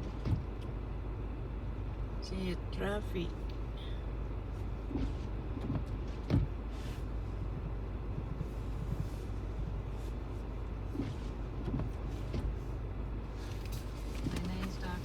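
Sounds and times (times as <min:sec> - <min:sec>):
road rumble inside moving car: 0:00.0 - 0:15.0.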